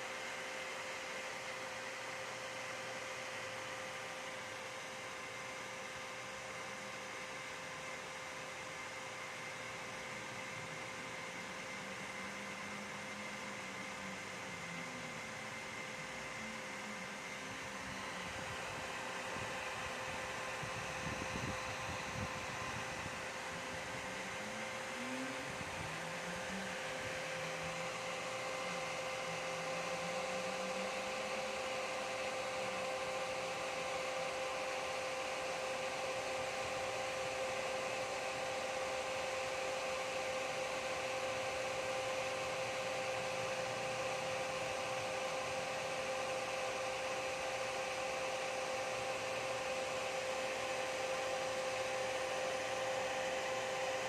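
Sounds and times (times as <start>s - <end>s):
computer cooling fan whirring: 0.0s - 54.0s.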